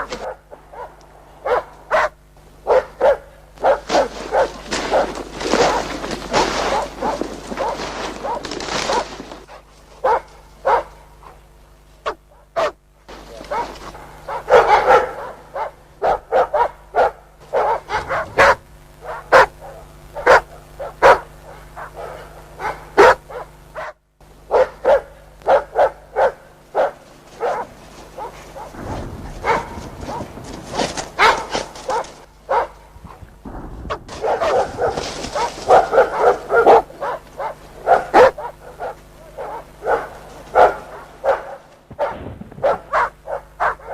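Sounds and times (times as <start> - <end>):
dogs barking: 0.0 - 43.9.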